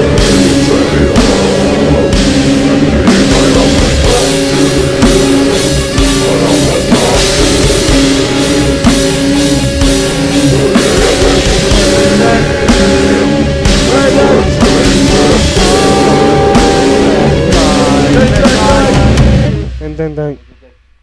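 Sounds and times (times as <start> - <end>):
heavy metal music: 0.0 - 21.0.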